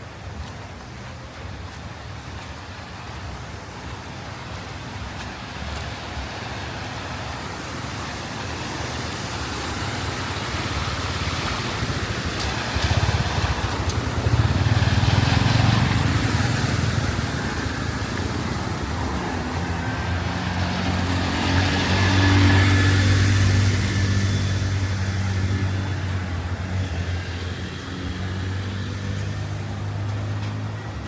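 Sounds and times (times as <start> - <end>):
road noise: 0.0 - 31.0
vehicle engines passing: 0.1 - 31.0.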